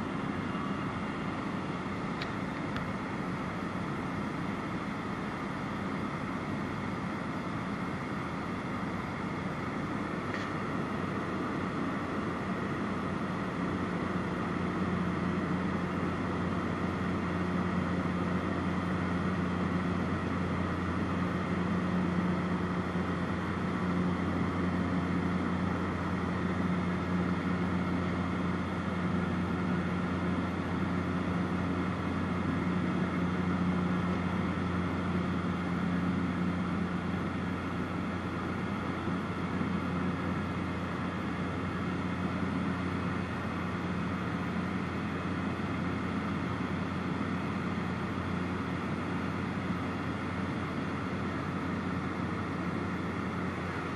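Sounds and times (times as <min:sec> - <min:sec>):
propeller plane engine drone: 0:00.0 - 0:53.9.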